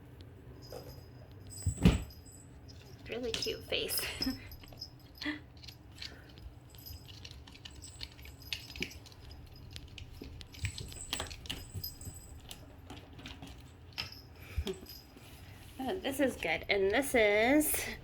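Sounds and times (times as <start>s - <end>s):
high metallic jingles: 0.5s - 18.0s
light clicks and rustles: 2.7s - 18.0s.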